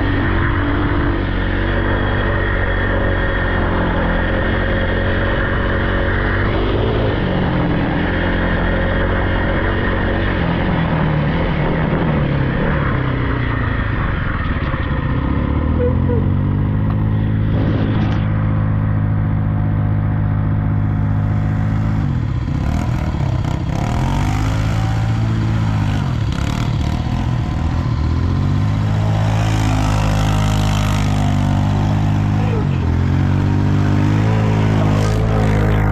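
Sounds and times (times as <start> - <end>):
off-road vehicle engine revving: 0.0 - 35.9.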